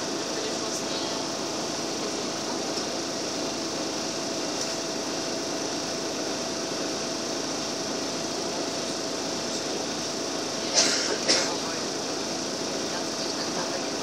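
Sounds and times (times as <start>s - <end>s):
bus engine and road hum: 0.0s - 14.0s
thin steady whine: 0.0s - 14.0s.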